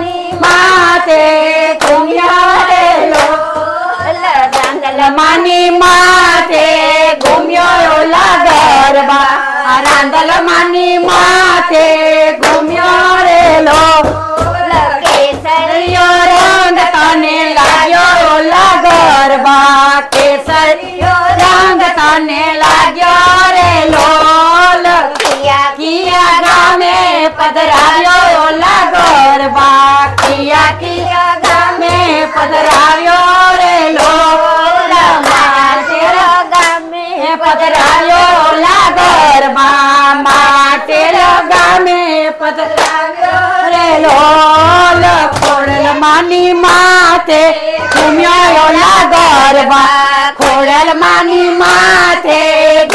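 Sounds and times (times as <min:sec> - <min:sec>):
rhythmic hand clapping: 0:00.0 - 0:52.9
women singing folk song: 0:00.0 - 0:52.9.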